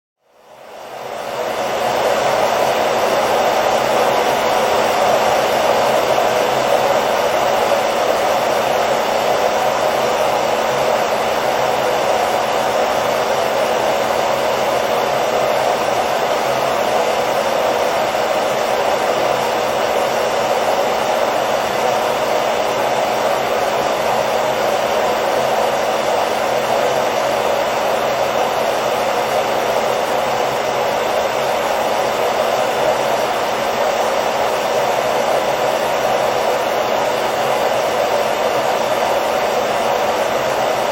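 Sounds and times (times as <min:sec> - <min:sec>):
hair dryer blowing air: 0:00.2 - 0:40.9.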